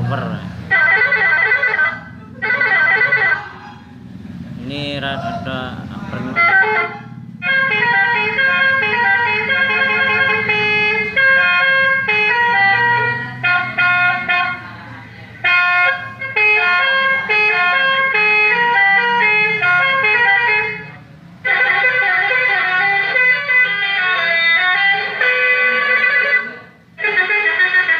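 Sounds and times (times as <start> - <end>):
horn loudspeaker beeping melody: 0.7 - 4.0, 6.1 - 14.8, 15.4 - 27.9.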